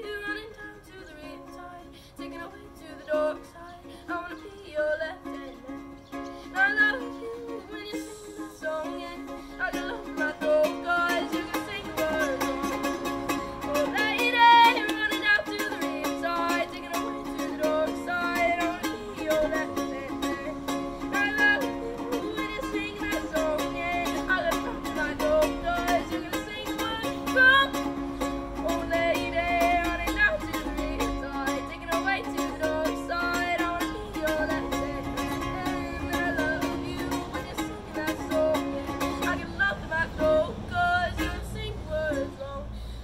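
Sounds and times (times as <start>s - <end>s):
ukulele strumming: 0.0s - 42.6s.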